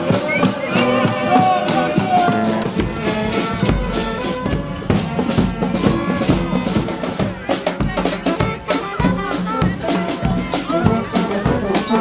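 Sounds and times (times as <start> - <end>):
percussion beat: 0.0 - 12.0
wind band playing: 0.0 - 12.0.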